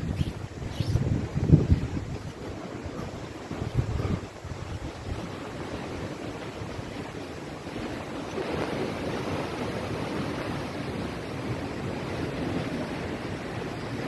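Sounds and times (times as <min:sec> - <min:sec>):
sea waves: 0:00.0 - 0:14.0
wind: 0:00.0 - 0:14.0.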